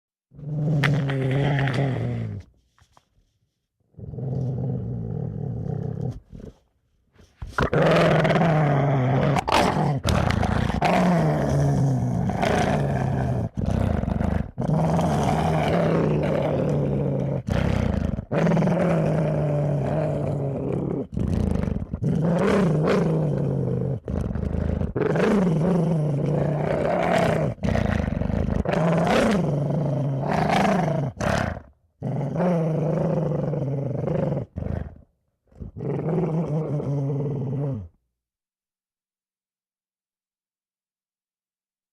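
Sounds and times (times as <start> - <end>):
dog growling: 0.3 - 2.5, 3.9 - 6.6, 7.4 - 38.0.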